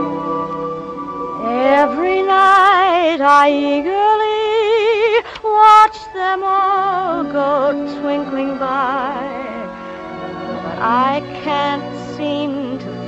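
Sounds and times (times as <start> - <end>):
slow orchestral film music: 0.0 - 13.0.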